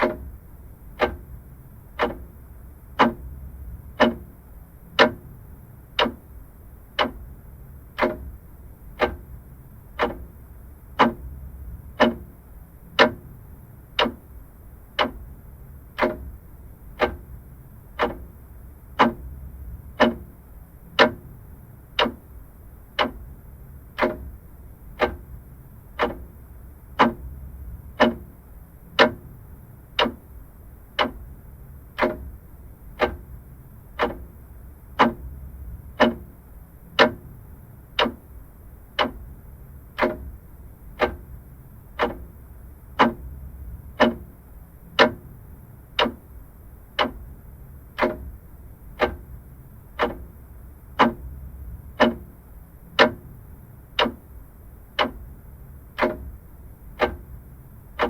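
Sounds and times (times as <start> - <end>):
faint low hum: 0.0 - 58.0
mechanical clock ticking: 0.0 - 58.0.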